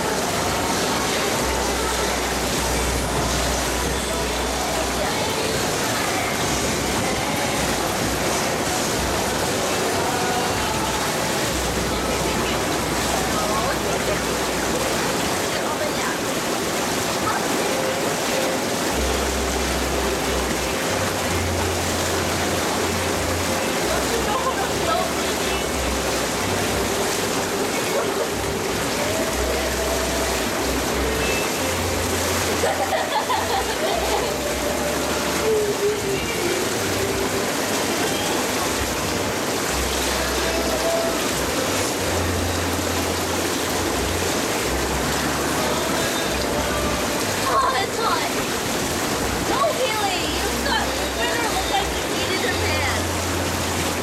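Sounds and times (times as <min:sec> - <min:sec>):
hot tub jets bubbling: 0:00.0 - 0:54.0.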